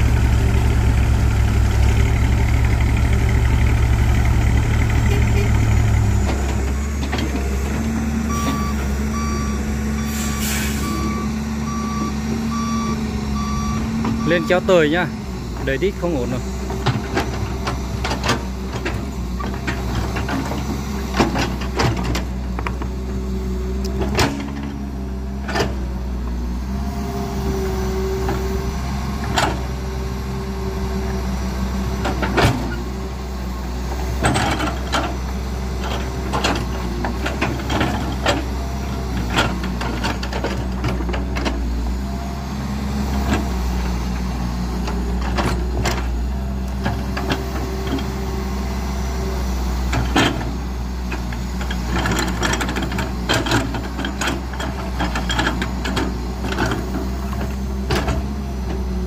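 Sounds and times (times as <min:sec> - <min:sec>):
heavy engine humming: 0:00.0 - 0:59.0.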